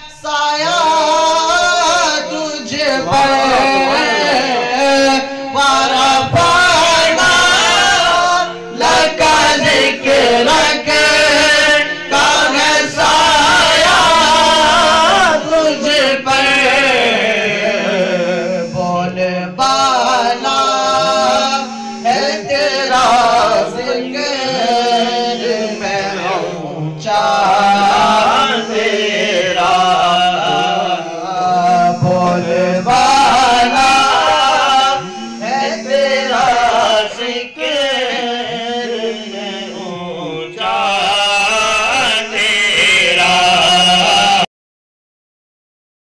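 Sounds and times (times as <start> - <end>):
man singing into a microphone: 0.0 - 44.5
low steady drone: 3.0 - 40.7.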